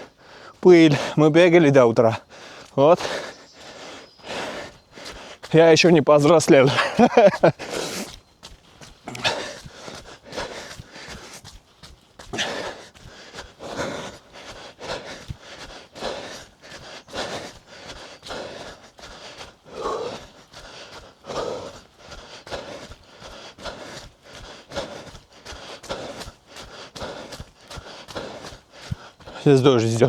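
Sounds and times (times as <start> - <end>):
runner breathing heavily: 0.0 - 30.0
footfalls on muddy path: 2.3 - 30.0.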